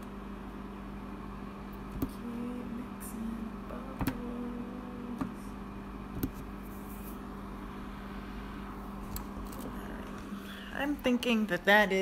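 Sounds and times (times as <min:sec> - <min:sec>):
projector fan and motor humming: 0:00.0 - 0:12.0.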